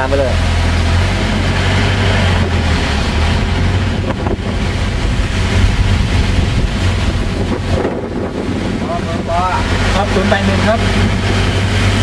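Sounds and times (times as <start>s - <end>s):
car engine rumble: 0.0s - 12.0s
road noise: 0.0s - 12.0s
wind buffeting microphone: 0.6s - 12.0s.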